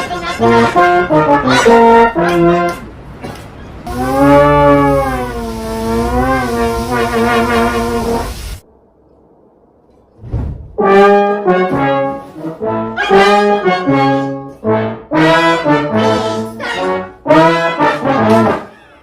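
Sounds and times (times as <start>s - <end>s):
brass instrument short notes: 0.0s - 2.9s, 3.9s - 8.4s, 10.8s - 18.7s.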